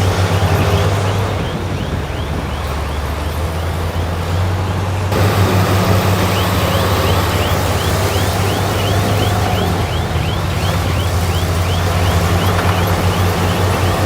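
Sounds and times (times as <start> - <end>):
diesel machinery engine drone: 0.0 - 14.0.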